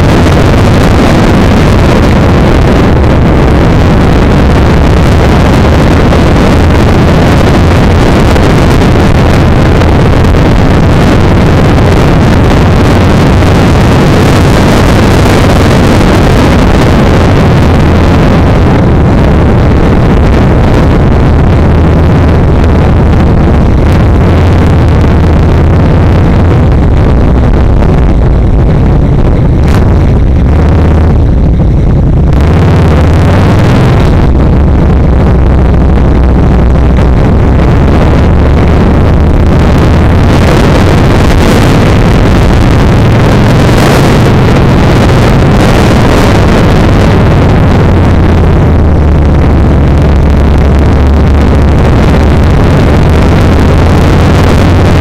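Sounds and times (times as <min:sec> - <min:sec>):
motorcycle engine running: 0:00.0 - 0:55.0
wind rushing: 0:00.0 - 0:55.0.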